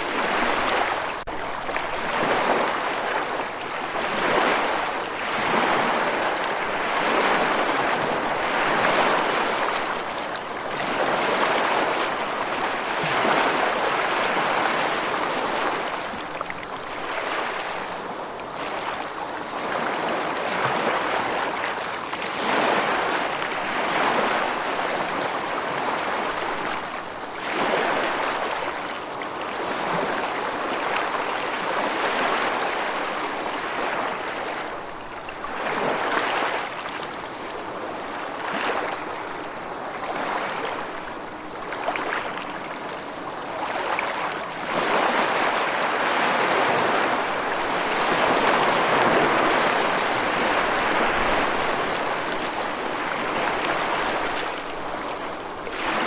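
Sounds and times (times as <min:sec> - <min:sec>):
rushing splashing water: 0:00.0 - 0:56.0.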